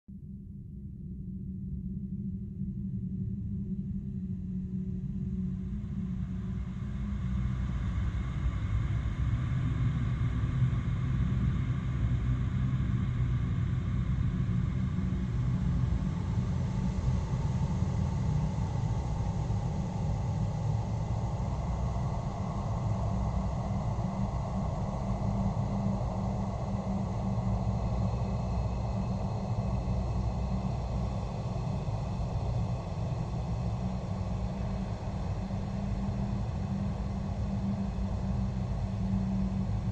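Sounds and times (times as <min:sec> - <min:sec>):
deep rumbling drone: 0:00.9 - 0:39.9.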